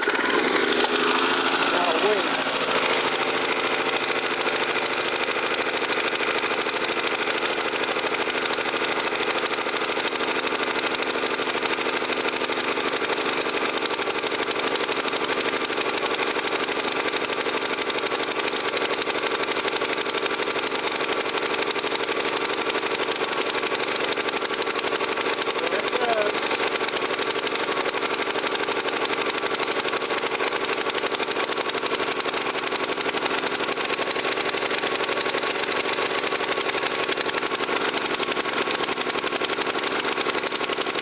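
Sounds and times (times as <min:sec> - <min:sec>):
small gasoline engine idling: 0:00.0 - 0:41.0.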